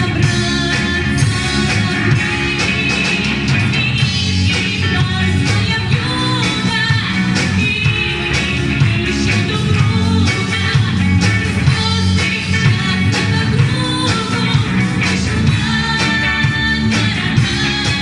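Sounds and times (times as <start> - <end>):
upbeat rock song with vocals: 0.0 - 18.0.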